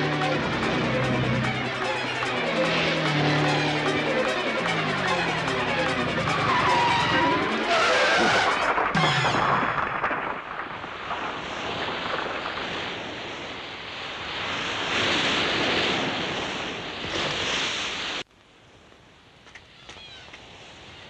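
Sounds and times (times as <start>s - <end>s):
sea surf: 0.0s - 9.9s, 11.0s - 18.2s
wind: 0.0s - 21.0s.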